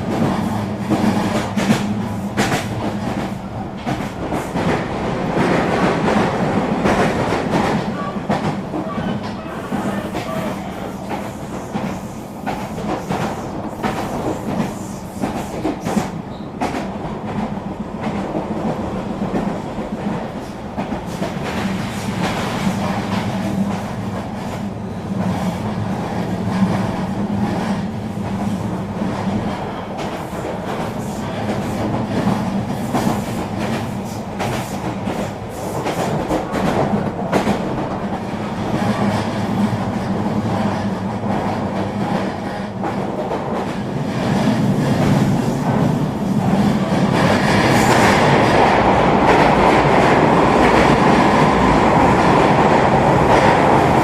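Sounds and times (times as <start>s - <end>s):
electric train hum and rumble: 0.0s - 54.0s.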